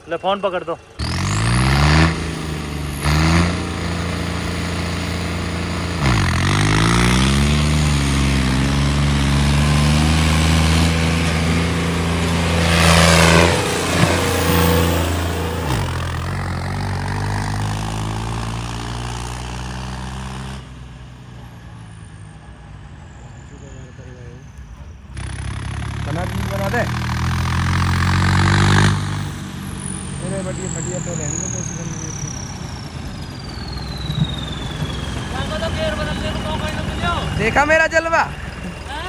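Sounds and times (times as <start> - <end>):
tractor engines at full throttle: 0.0 - 39.0.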